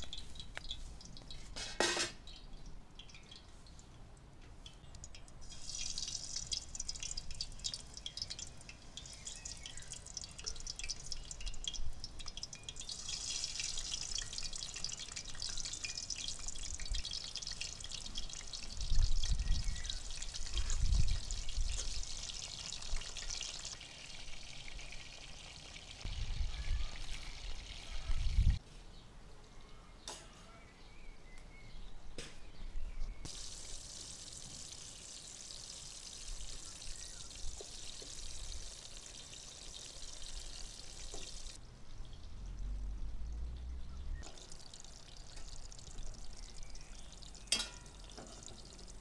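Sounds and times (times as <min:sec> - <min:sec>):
aubergine sizzling in hot oil: 0:00.0 - 0:03.8, 0:04.7 - 0:28.6, 0:33.2 - 0:42.7, 0:44.2 - 0:49.0.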